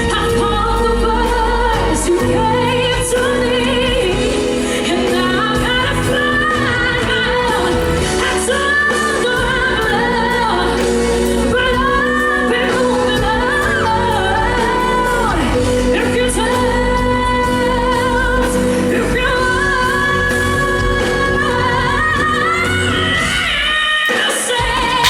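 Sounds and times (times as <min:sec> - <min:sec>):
live band accompaniment: 0:00.0 - 0:25.0
woman singing power ballad: 0:00.0 - 0:25.0.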